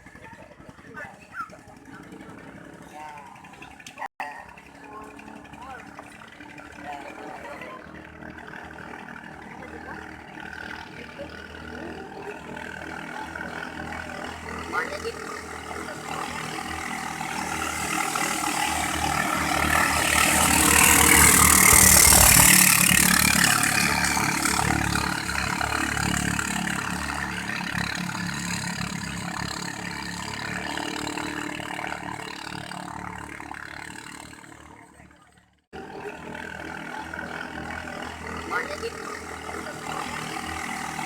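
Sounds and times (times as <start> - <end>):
boat engine passing: 0.0 - 41.0.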